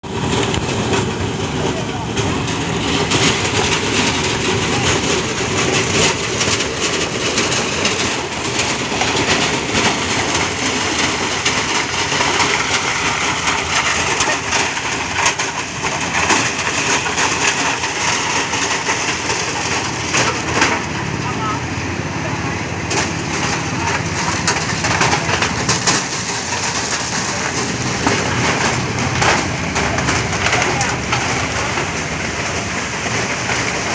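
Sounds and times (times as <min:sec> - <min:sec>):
engine drone: 0:00.0 - 0:33.9
thresher rattling and clattering: 0:00.1 - 0:33.9.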